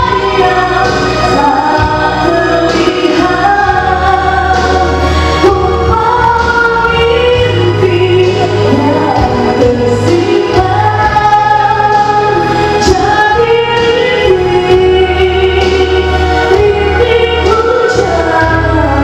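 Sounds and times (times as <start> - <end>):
instrumental accompaniment: 0.0 - 19.0
woman singing: 0.0 - 19.0.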